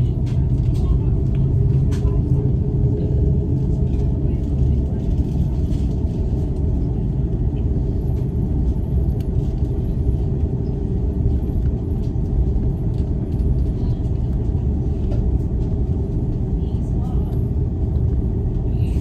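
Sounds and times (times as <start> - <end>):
airliner cabin rumble taxiing: 0.0 - 19.0.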